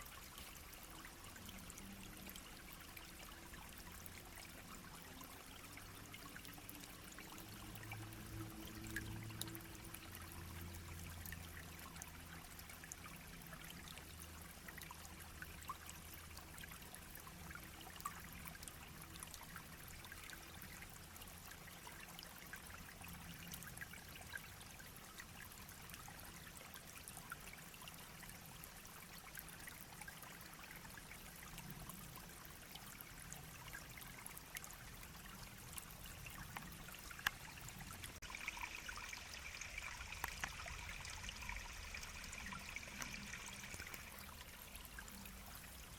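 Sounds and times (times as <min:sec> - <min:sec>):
stream babbling over stones: 0:00.0 - 0:45.9.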